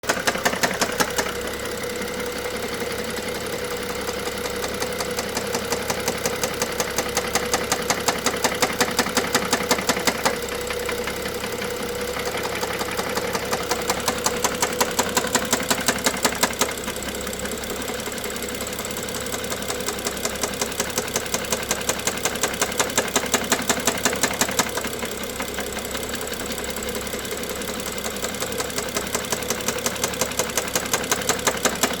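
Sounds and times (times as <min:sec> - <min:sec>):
engine knocking: 0:00.0 - 0:32.0.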